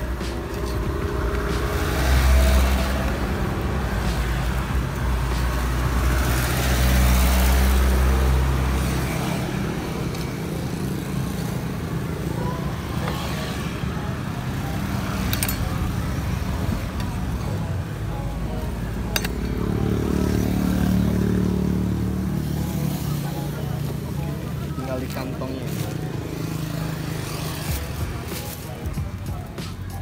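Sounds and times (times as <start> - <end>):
street traffic: 0.0 - 30.0
vehicle engine rumbling: 0.0 - 30.0.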